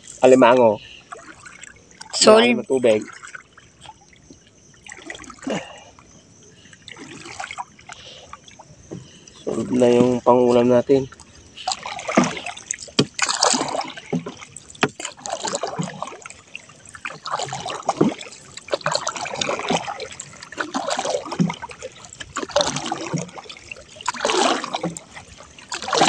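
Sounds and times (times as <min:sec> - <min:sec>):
water splashing and dripping: 0:00.0 - 0:26.0.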